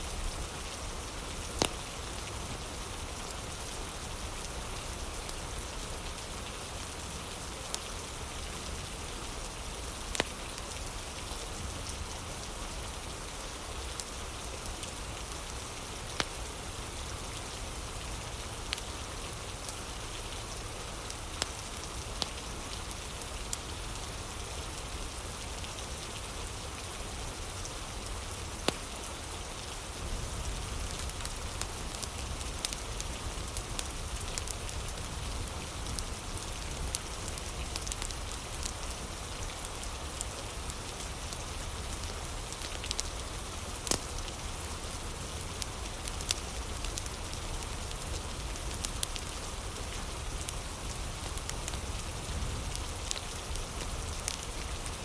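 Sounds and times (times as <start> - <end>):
steady rain falling: 0.0 - 55.0
wood fire crackling: 0.1 - 25.8, 27.4 - 55.0.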